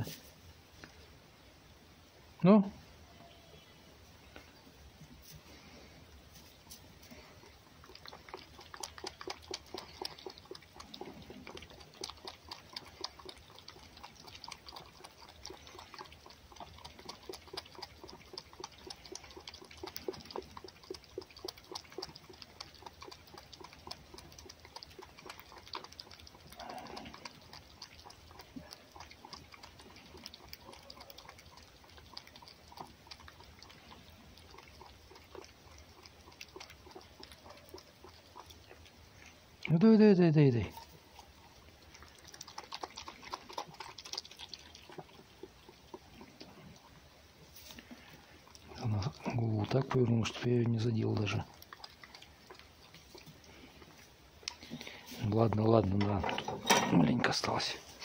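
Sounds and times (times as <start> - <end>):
fox lapping and chewing: 0.0 - 1.4, 4.2 - 58.0.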